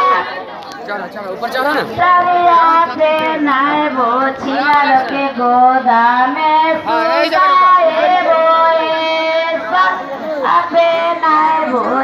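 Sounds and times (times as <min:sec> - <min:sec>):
women singing folk song: 0:01.9 - 0:12.0.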